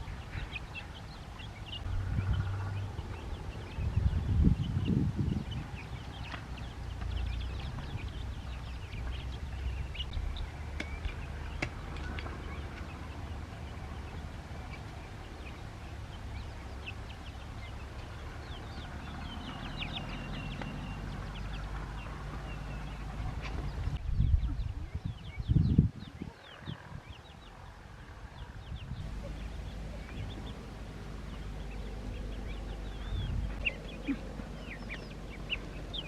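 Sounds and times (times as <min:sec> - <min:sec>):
ducklings peeping: 0:00.0 - 0:27.6, 0:28.3 - 0:36.0
steady low rumble: 0:00.0 - 0:36.0.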